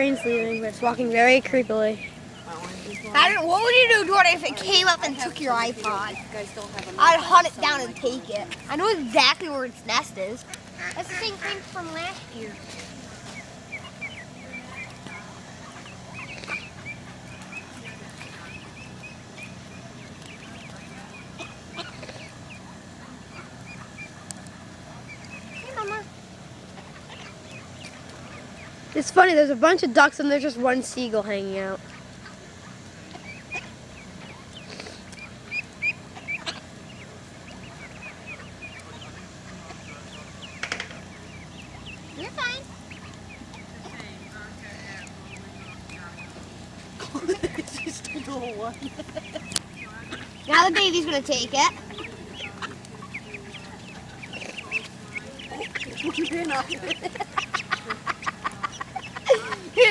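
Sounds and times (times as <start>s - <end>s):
birds chirping: 0.0s - 59.9s
ducks peeping: 0.0s - 59.9s
faint low hum: 0.0s - 59.9s.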